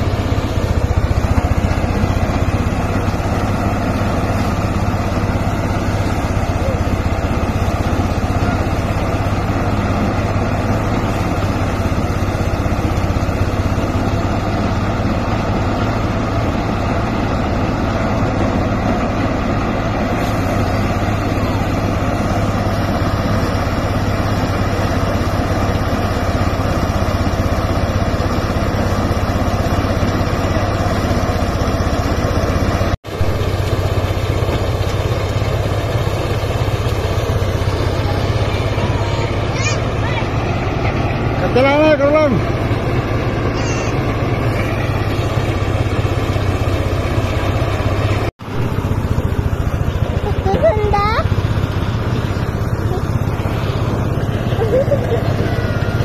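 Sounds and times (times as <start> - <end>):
rice thresher engine humming: 0.0 - 56.0.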